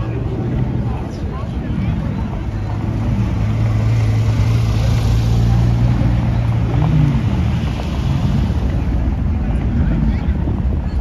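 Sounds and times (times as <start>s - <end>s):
sports car engines at low revs: 0.0s - 11.0s.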